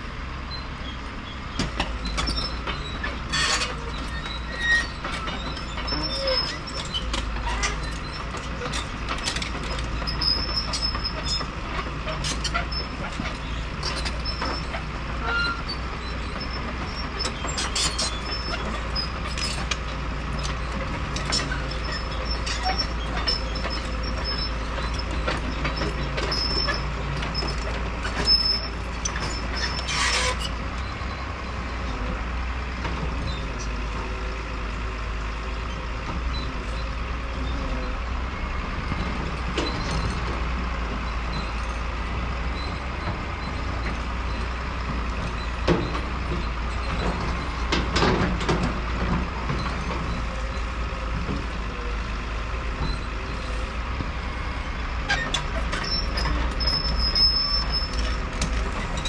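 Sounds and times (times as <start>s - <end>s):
excavator engine running: 0.0s - 59.0s
bucket and track clanks: 1.6s - 31.8s, 38.9s - 54.2s, 55.0s - 59.0s.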